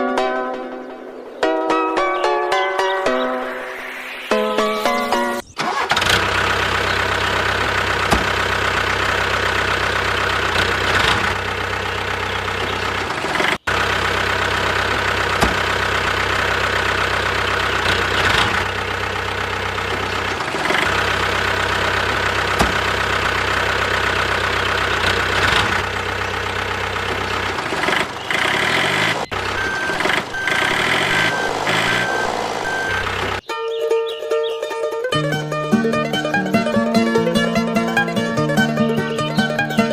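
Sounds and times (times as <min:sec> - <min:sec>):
truck engine idling and revving: 0:02.6 - 0:33.5, 0:35.1 - 0:39.9.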